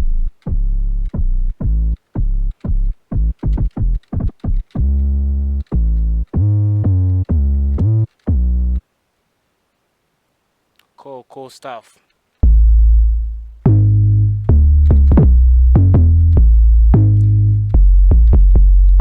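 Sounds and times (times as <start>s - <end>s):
synthesizer bass pattern: 0.0s - 8.8s, 12.4s - 19.0s.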